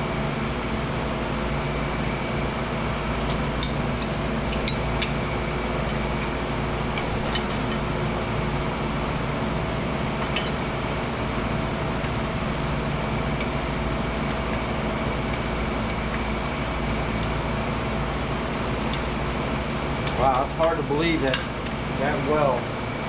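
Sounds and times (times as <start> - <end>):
shop machinery drone: 0.0 - 23.0.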